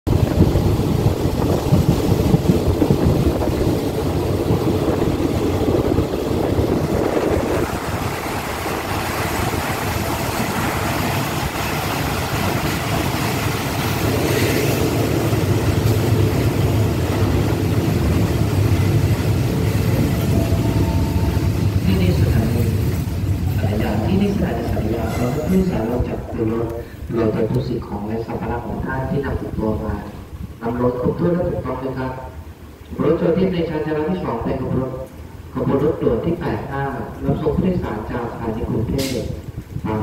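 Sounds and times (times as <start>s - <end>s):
train wheels rumbling on rails: 0.1s - 30.9s, 36.6s - 40.0s.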